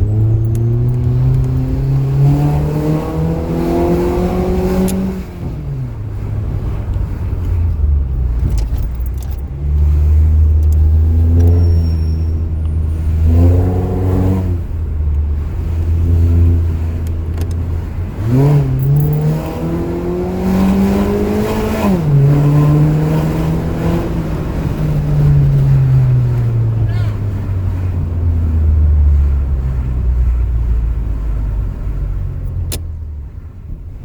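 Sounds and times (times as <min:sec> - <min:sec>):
car exhaust idling and revving: 0:00.0 - 0:34.0.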